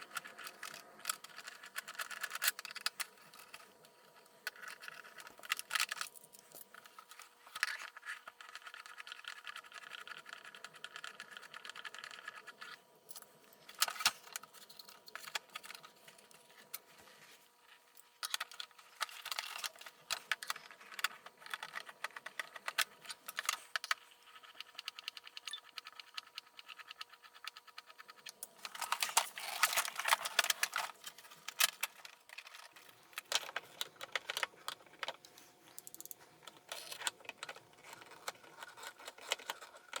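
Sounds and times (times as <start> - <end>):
plastic parts clicking and rattling: 0.0 - 16.9, 17.7 - 40.0.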